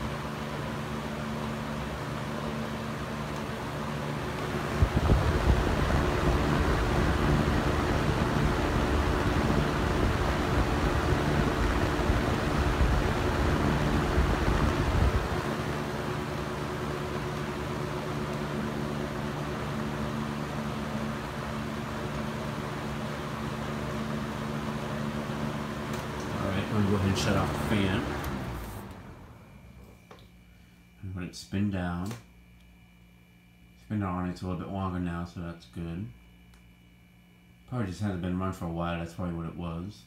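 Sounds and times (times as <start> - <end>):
fan motor hum: 0.0 - 40.0.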